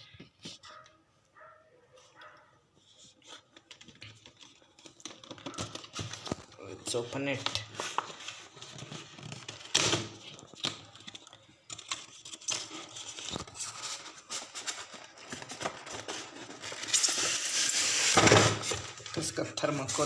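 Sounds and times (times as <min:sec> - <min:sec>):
cardboard packaging rustling: 0:02.8 - 0:20.0.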